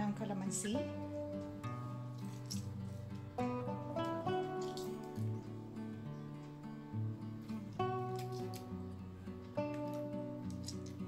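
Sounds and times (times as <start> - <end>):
acoustic guitar piece: 0.0 - 11.0.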